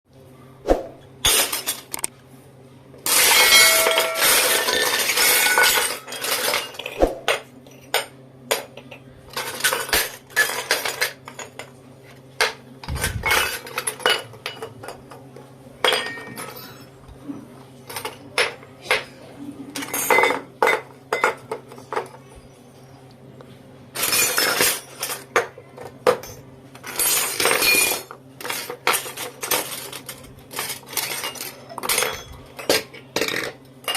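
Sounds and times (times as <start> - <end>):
toy dishes clinking and rattling: 3.0 - 17.0, 17.8 - 22.4, 23.9 - 33.9.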